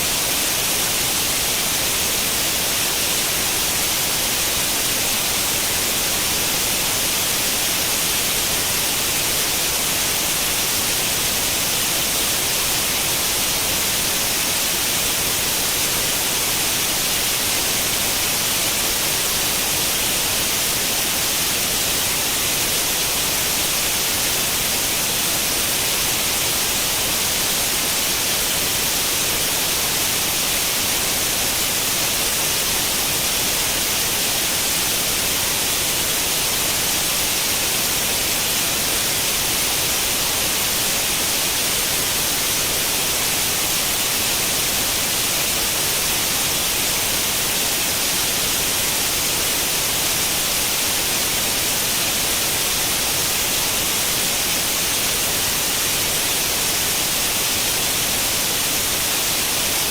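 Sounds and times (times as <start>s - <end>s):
television static hiss: 0.0s - 59.9s.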